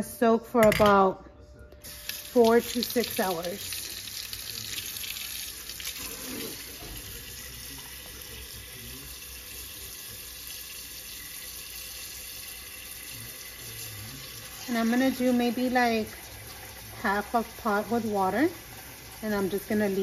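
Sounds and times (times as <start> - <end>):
faucet running into metal pot: 1.8 - 20.0.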